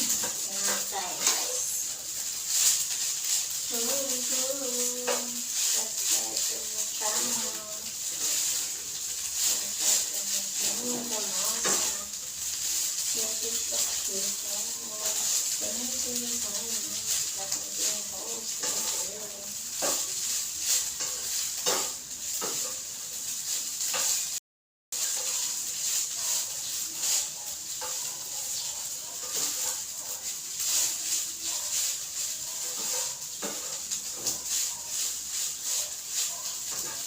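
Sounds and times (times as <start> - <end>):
utensil scraping a pan: 0.0 - 24.4, 25.0 - 37.0
rice sizzling in a pan: 0.0 - 37.0.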